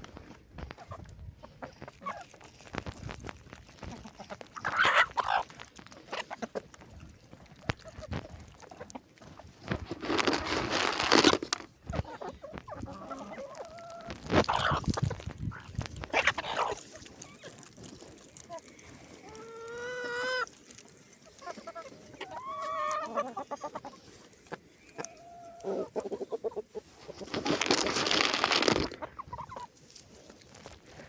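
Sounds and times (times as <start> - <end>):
chickens clucking: 0.2 - 30.3.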